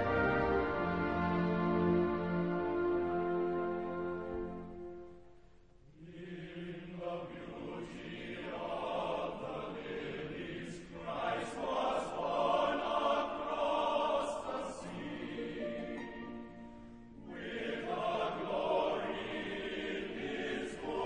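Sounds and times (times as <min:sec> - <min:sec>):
choir singing: 0:00.0 - 0:05.1, 0:05.8 - 0:21.0.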